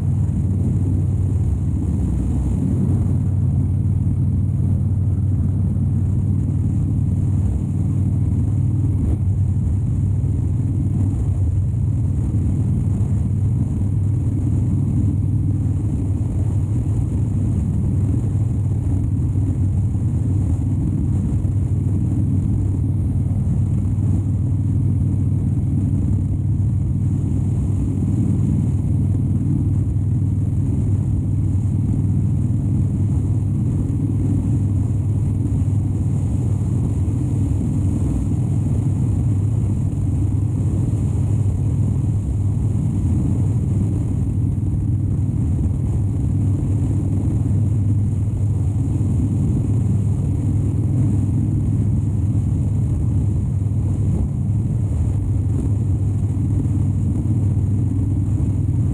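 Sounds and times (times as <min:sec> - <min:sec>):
motorcycle engine running steadily: 0:00.0 - 0:58.9.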